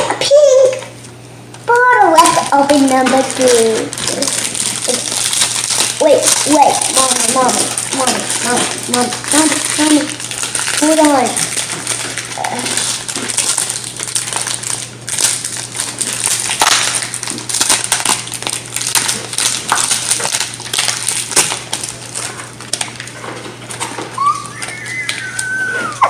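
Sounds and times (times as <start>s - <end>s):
plastic wrapper crackling: 1.8s - 26.0s.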